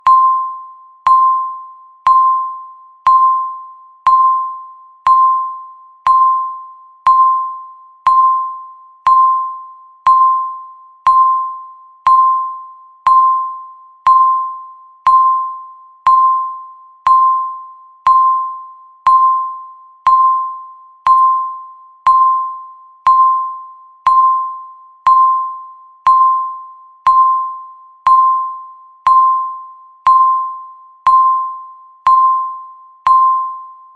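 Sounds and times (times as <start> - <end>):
electronic timer beeps: 0.0 - 33.9.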